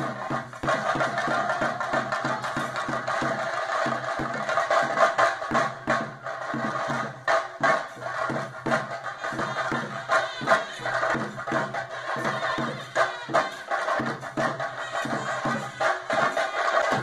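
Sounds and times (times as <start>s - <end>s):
drums and cymbals beating: 0.0s - 17.0s.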